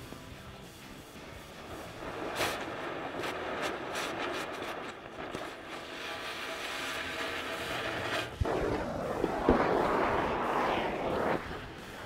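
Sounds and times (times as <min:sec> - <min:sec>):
cutting torch hissing: 0:00.5 - 0:12.0.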